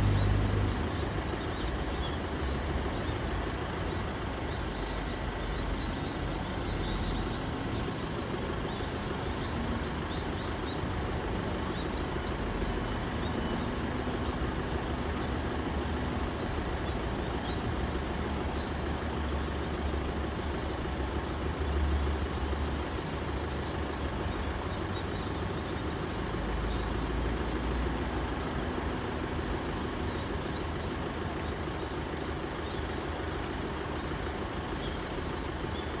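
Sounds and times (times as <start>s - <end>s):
bird chirps: 0.0s - 21.1s, 21.8s - 28.0s, 29.0s - 36.0s.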